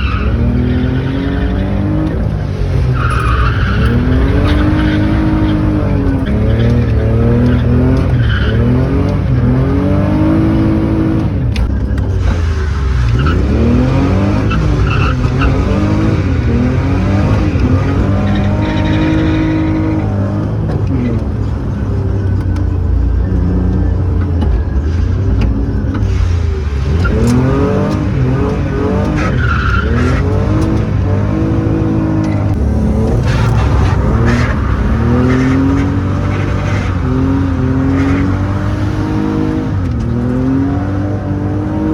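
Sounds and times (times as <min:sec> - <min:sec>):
tyre squeal: 0:00.0 - 0:09.6, 0:12.2 - 0:22.1, 0:25.9 - 0:41.9
car engine revving hard: 0:00.0 - 0:22.6, 0:23.2 - 0:41.9.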